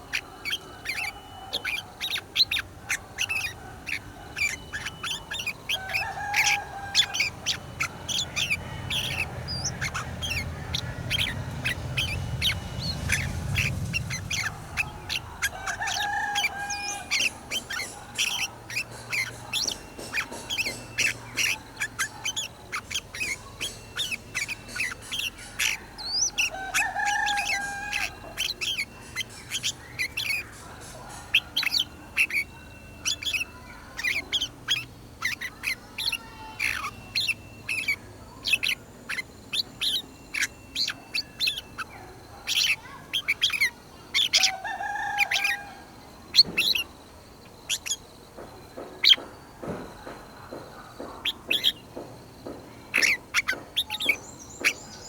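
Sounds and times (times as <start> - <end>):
bulbuls chirping: 0.0 - 55.0.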